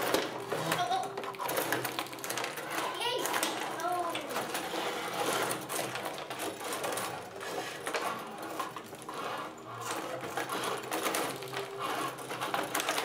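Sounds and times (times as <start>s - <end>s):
puck clicking around rink: 0.0s - 13.0s.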